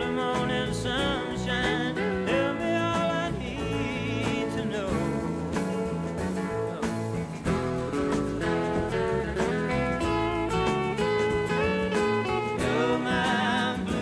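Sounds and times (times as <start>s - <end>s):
country guitar music: 0.0s - 14.0s.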